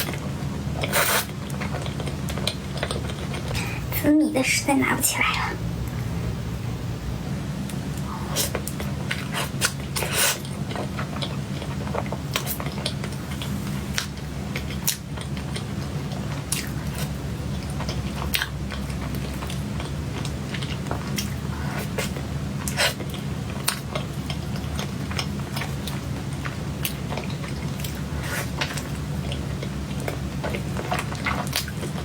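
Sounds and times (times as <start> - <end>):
person chewing cake: 0.0 - 3.9, 7.9 - 32.0
constant low hum: 0.0 - 32.0.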